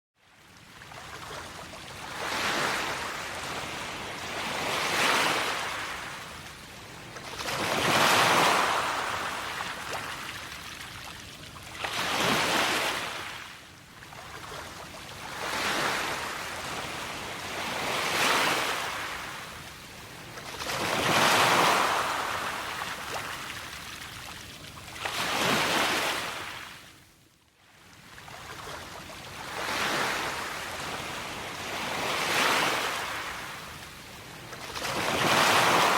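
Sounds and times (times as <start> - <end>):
waves breaking: 0.8 - 13.5, 14.1 - 26.9, 28.1 - 35.9.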